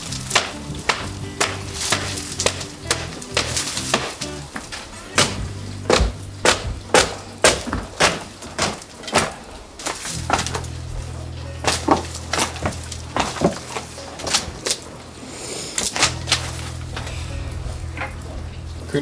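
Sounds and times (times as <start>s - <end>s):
background music with bass: 0.0s - 8.0s, 10.1s - 15.2s, 15.9s - 19.0s
wood and clay cracking: 0.0s - 19.0s.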